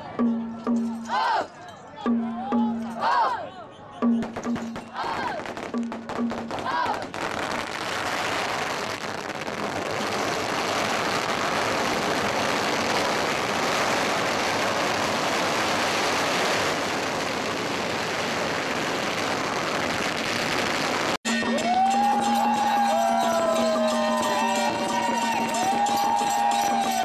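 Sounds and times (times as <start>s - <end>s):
firecrackers crackling: 4.2s - 27.0s.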